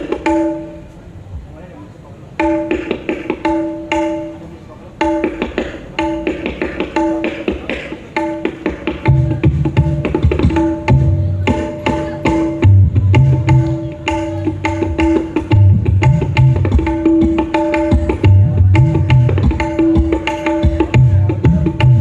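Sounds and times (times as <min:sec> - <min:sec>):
high-pitched drum strokes: 0:02.4 - 0:22.0.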